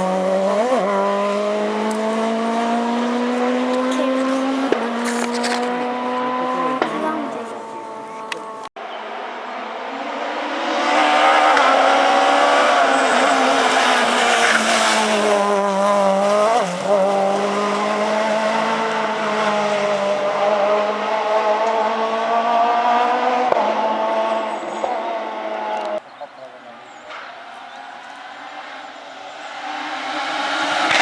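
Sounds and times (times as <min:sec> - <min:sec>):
rally car engine revving hard: 0:00.0 - 0:26.0, 0:27.1 - 0:31.0.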